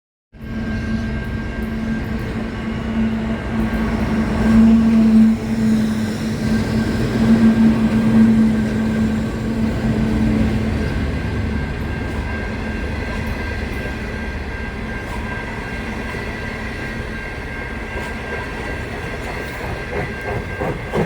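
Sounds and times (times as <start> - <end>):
train rumbling on rails: 0.3 - 21.0.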